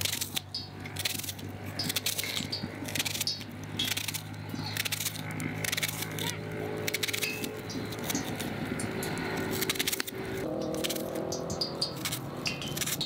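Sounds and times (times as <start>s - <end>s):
knife slicing onion: 0.0s - 8.6s, 9.2s - 13.0s
low hum: 0.0s - 13.0s.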